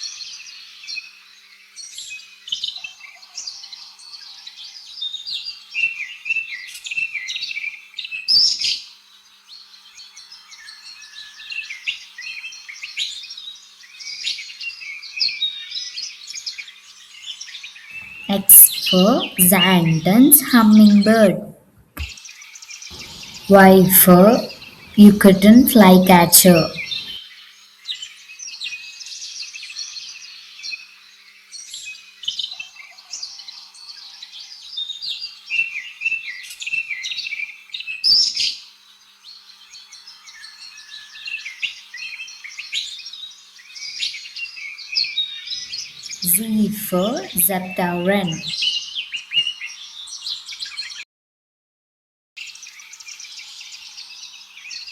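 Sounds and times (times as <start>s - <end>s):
songbirds chirping and trilling: 0.0s - 51.0s, 52.4s - 54.9s.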